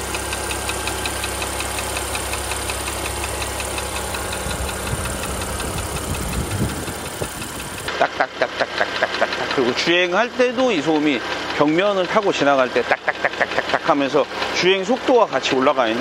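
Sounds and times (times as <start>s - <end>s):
car engine idling: 0.0s - 16.0s
rapid even engine ticking: 0.0s - 16.0s.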